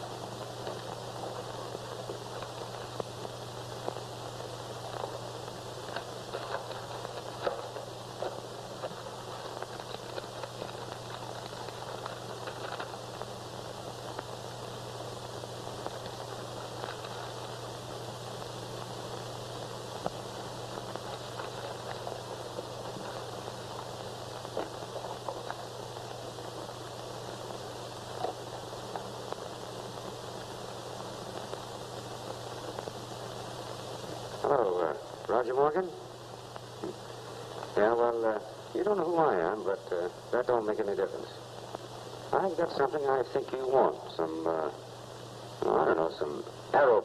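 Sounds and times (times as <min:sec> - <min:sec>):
faint crackles and clicks: 0:00.0 - 0:47.0
film soundtrack hiss and hum: 0:00.0 - 0:47.0.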